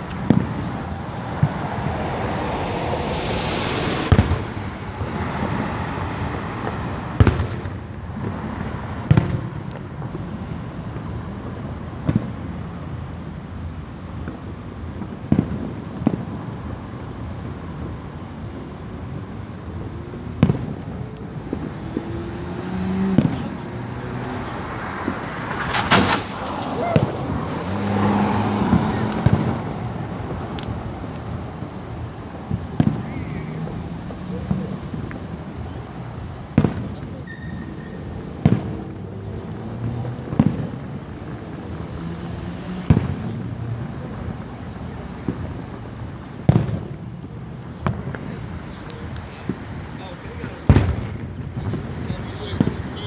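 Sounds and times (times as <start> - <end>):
small fireworks pops: 0.0 - 2.0, 4.1 - 53.0
background noise: 0.0 - 53.0
fireworks bangs: 0.0 - 53.0.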